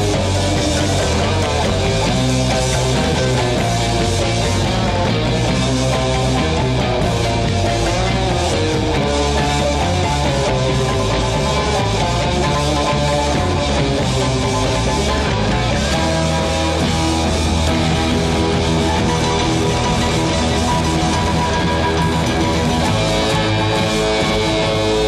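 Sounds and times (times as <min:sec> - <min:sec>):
rock music with electric guitar: 0:00.0 - 0:25.0.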